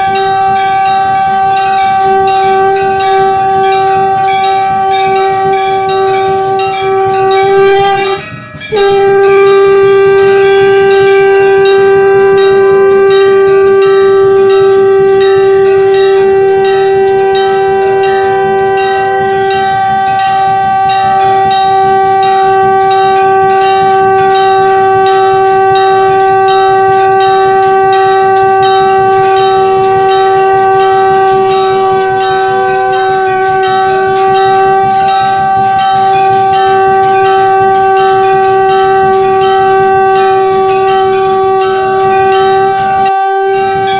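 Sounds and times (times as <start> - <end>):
conch shell blast: 0.0 - 43.9
temple bells ringing: 0.0 - 43.9.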